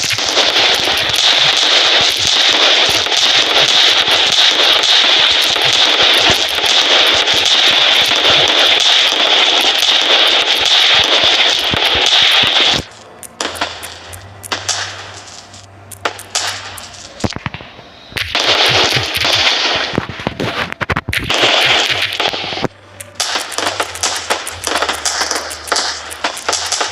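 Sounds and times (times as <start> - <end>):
fireworks bangs and pops: 0.0 - 26.9
fireworks crackling barrage: 0.0 - 26.9.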